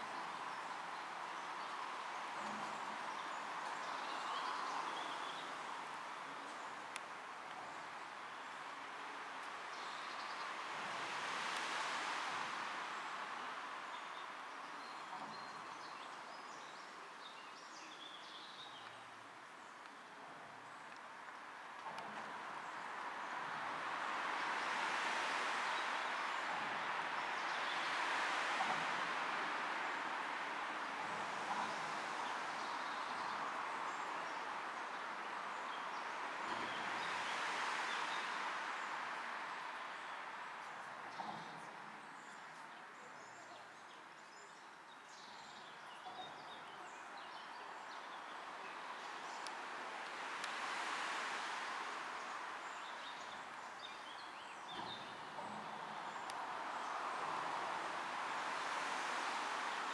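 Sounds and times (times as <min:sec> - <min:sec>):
road traffic rush: 0:00.0 - 0:17.2, 0:18.4 - 0:43.2, 0:46.4 - 0:59.9
faint outdoor background noise: 0:00.0 - 0:59.9.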